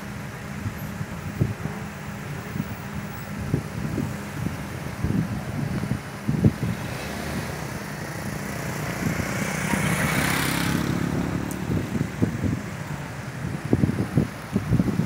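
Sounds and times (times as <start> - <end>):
vehicles driving past: 0.0 - 15.0
tyre noise on dirt road: 0.9 - 15.0.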